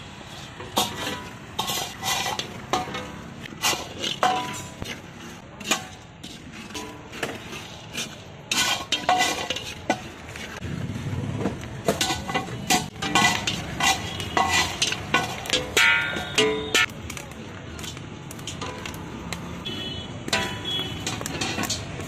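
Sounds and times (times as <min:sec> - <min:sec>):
ladle scraping iron wok: 0:00.0 - 0:22.0.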